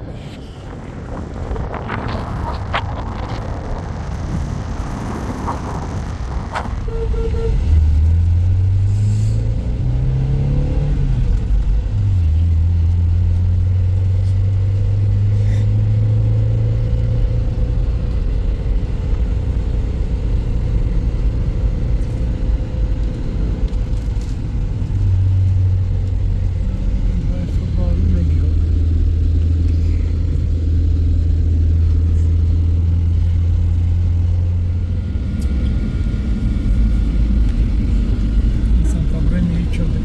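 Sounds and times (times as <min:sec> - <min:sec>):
car engine running: 0:01.0 - 0:40.0.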